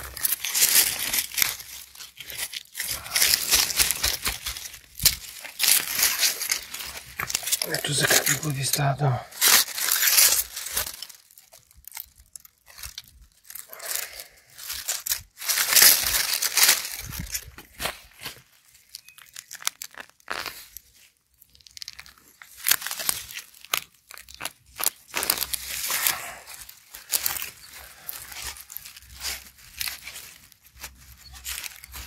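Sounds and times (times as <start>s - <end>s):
dry leaves rustling: 0.0s - 32.0s
mulch and soil crunching: 0.0s - 32.0s.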